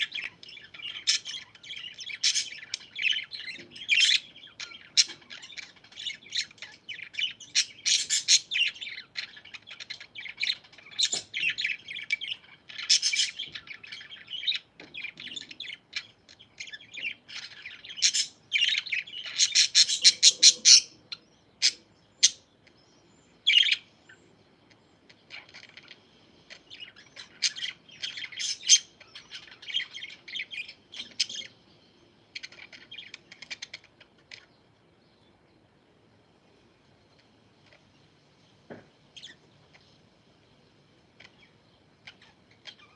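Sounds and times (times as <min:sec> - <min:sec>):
parakeets chirping and chattering: 0:00.0 - 0:42.9.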